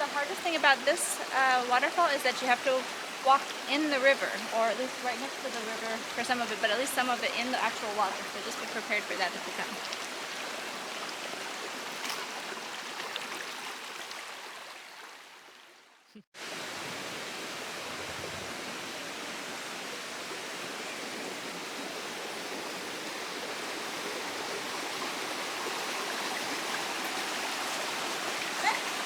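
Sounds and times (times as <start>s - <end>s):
rushing river water: 0.0s - 29.0s.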